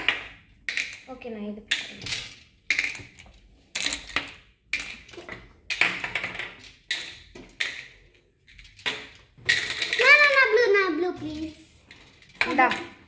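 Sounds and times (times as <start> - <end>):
candies clicking on glass: 0.0 - 13.0.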